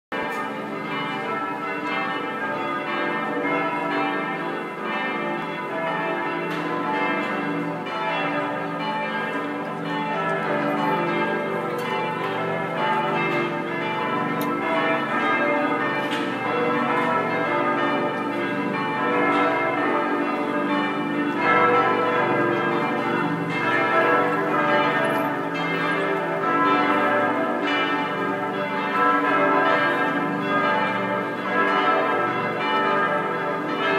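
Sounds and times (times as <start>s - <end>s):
church bells pealing: 0.1s - 33.9s.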